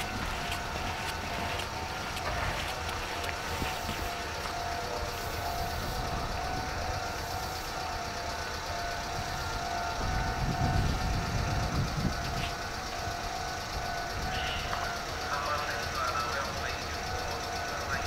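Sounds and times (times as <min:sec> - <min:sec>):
vehicle running hum with whine: 0:00.0 - 0:18.0.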